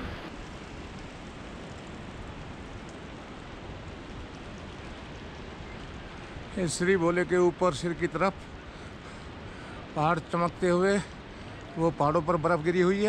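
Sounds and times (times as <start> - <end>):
mountain river rushing: 0.0 - 13.0.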